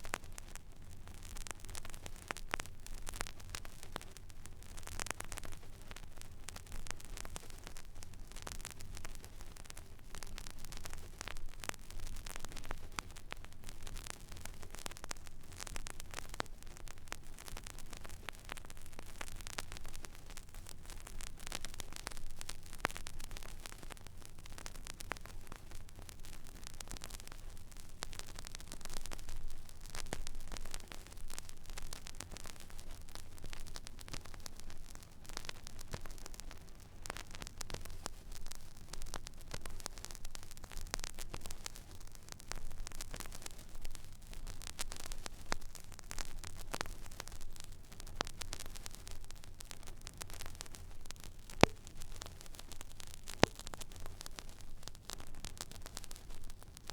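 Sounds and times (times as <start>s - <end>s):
vinyl crackles and pops: 0.0s - 56.9s
vinyl surface hiss: 0.0s - 56.9s.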